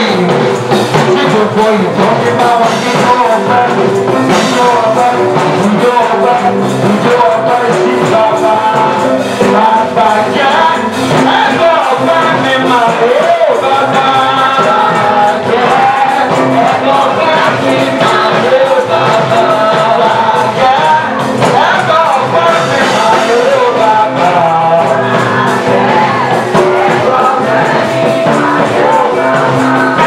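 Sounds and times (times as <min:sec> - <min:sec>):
church praise music with singing: 0:00.0 - 0:30.0.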